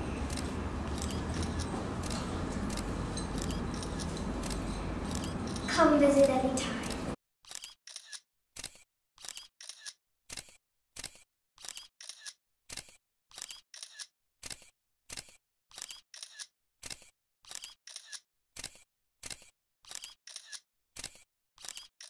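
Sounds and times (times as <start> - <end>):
camera shutter clicking: 0.3 - 5.7, 6.8 - 22.0.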